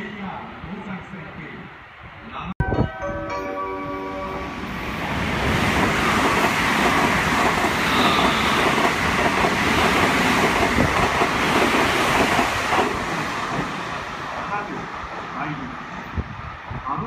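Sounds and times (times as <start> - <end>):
train passing at high speed: 3.0 - 17.0.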